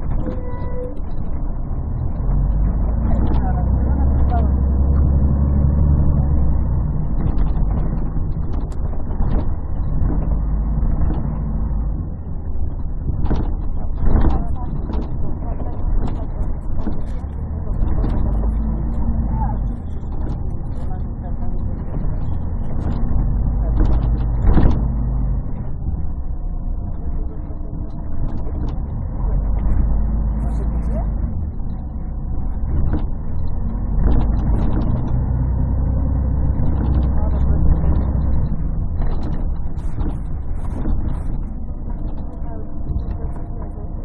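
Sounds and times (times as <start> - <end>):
bus diesel engine drone: 0.0 - 44.0.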